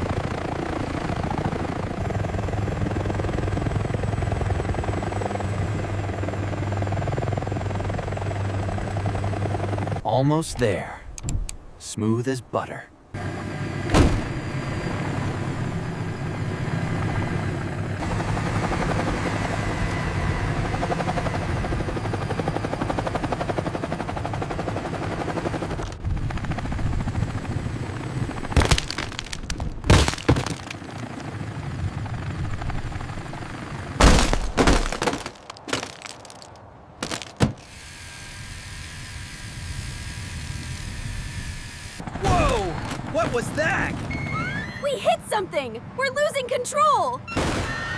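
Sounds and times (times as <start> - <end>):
helicopter rotor chopping: 0.0 - 10.9, 13.2 - 44.1.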